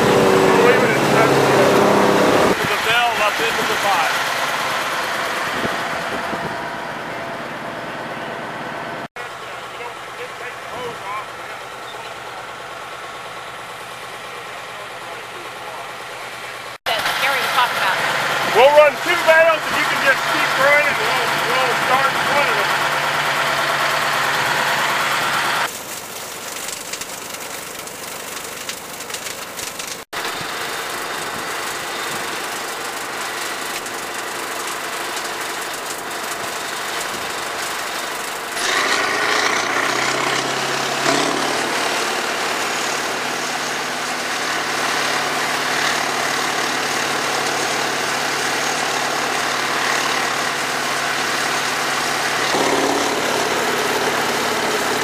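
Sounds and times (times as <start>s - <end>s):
hay grinder grinding bales: 0.0s - 9.1s, 16.9s - 55.0s
heavy diesel engine running: 0.0s - 55.0s.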